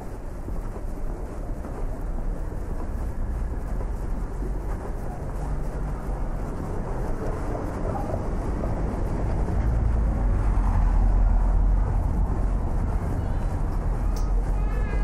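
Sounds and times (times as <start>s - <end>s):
passing vehicles rumble: 2.9s - 15.0s.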